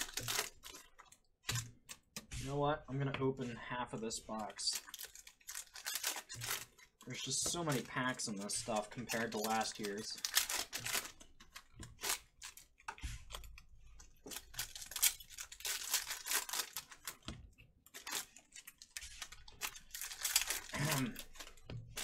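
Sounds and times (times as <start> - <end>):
foil wrappers ripping: 0.0 - 2.2, 4.3 - 22.0.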